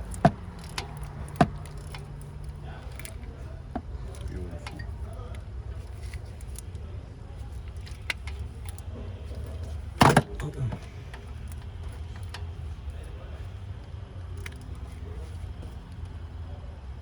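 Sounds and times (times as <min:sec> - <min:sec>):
hand tools and metal parts clinking: 0:00.0 - 0:13.7
steady low hum: 0:00.0 - 0:17.0.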